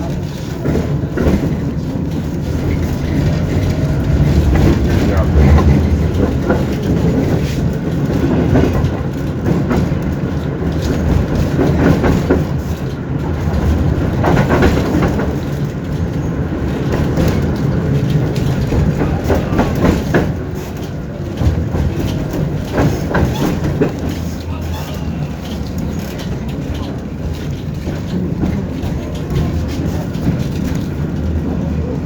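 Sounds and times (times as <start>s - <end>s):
tram rumble: 0.0s - 32.0s
wheels clacking over rail joints: 0.0s - 32.0s.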